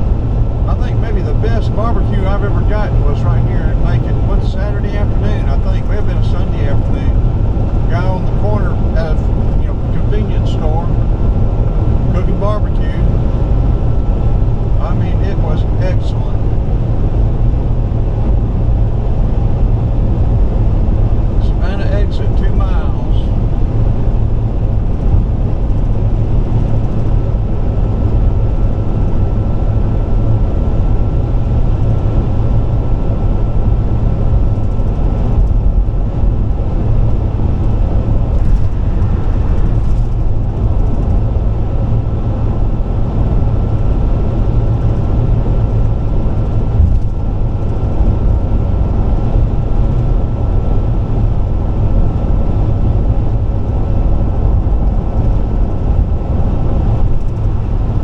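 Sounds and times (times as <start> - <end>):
faint high whine: 0.0 - 58.0
tyre and road noise: 0.0 - 58.0.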